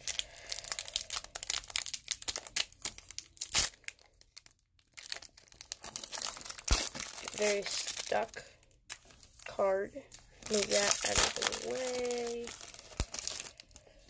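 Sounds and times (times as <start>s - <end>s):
foil wrapper crinkling and tearing: 0.0s - 14.0s.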